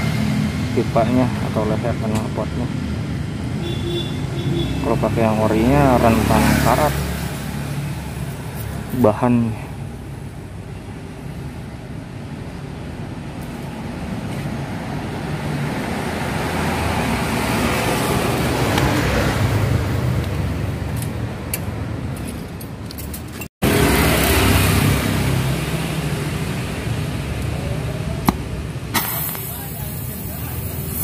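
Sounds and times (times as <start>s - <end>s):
road traffic: 0.0s - 31.0s
vehicle engine rumble: 0.0s - 31.0s.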